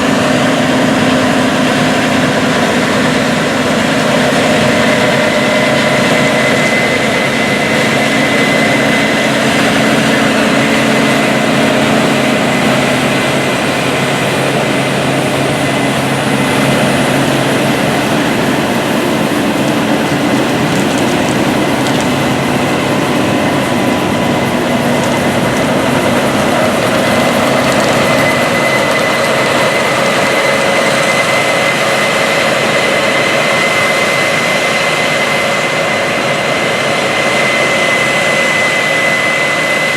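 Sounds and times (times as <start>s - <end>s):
heavy engine drone: 0.0s - 39.9s
high whine: 0.0s - 39.9s.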